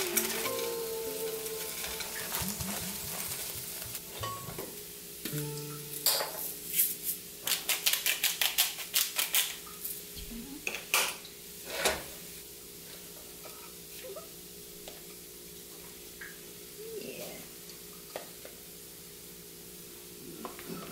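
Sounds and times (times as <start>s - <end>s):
faint sizzle from pan: 0.0s - 7.4s, 9.4s - 20.9s.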